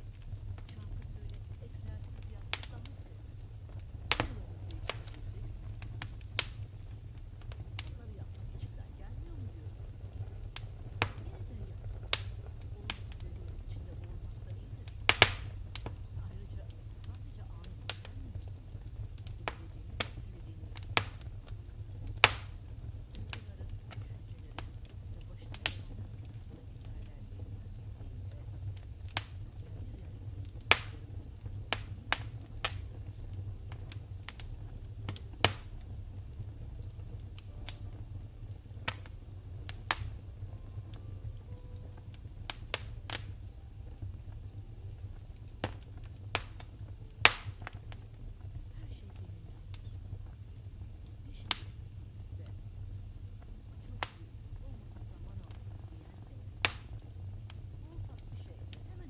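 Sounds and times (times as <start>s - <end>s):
fire crackling and popping: 0.0s - 59.0s
low rumble of flames: 0.0s - 59.0s.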